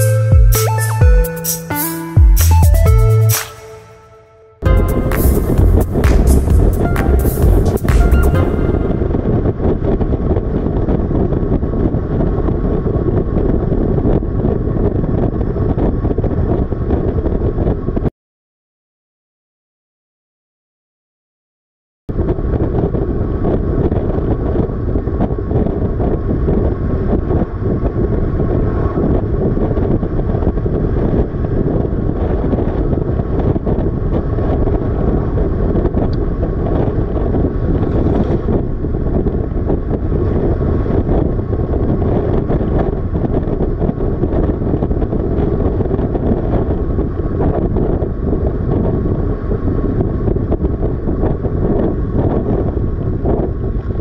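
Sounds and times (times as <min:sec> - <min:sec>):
wind rushing over microphone: 0:02.8 - 0:18.1, 0:22.1 - 0:54.0.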